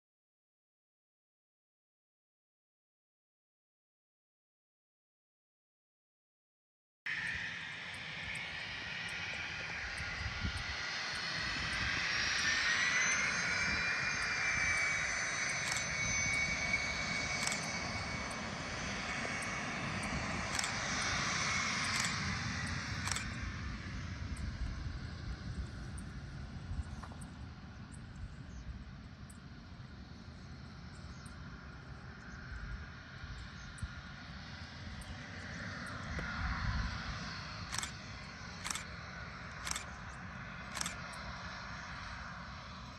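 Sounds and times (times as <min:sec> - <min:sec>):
jet engine roar with whine: 0:07.1 - 0:42.9.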